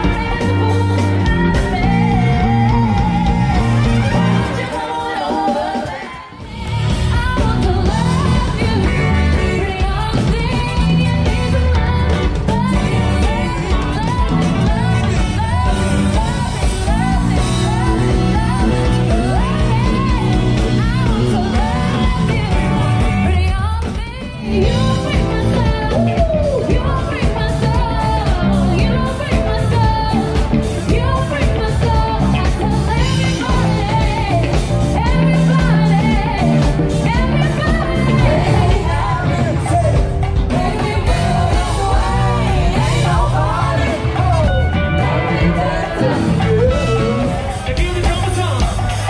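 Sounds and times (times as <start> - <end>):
several people singing: 0.0 - 23.3, 24.4 - 49.0
live band playing upbeat pop: 0.0 - 49.0.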